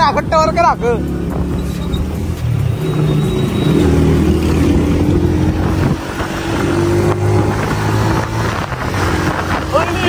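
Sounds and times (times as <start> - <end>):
motorcycle engine running: 0.0 - 10.0
wind noise on microphone: 1.3 - 10.0.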